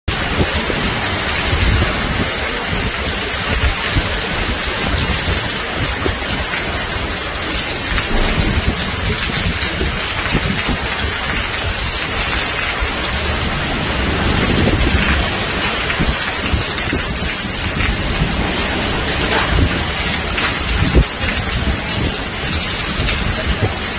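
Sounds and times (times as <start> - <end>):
gusty wind rumble: 0.1 - 23.9
heavy rain on leaves: 0.1 - 23.9.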